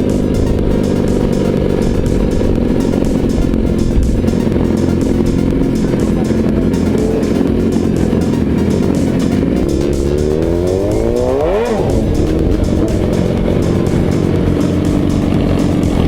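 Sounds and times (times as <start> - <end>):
background music with steady beat: 0.0 - 16.0
vehicle engine revving: 0.0 - 16.0.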